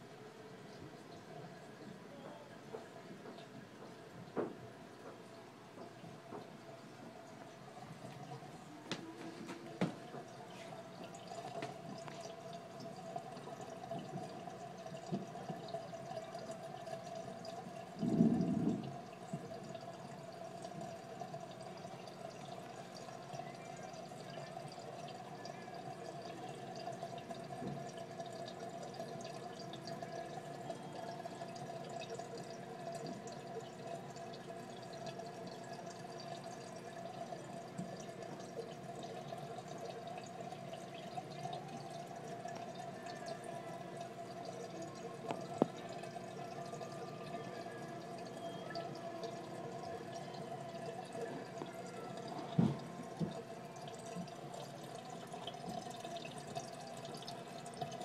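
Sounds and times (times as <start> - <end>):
water trickling and dripping: 0.0 - 58.0
steady hum: 4.1 - 58.0.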